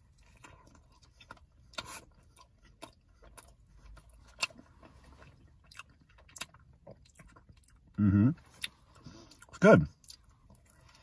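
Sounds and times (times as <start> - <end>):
wet chewing sounds: 0.0 - 11.0.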